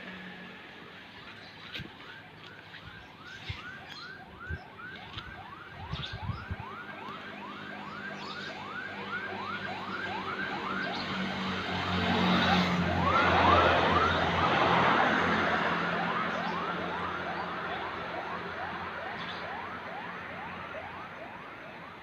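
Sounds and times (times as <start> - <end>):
vehicle siren whooping: 1.8 - 22.0.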